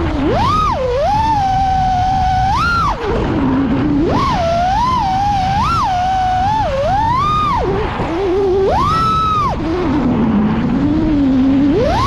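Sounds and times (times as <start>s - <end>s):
quadcopter propellers whining: 0.0s - 12.0s.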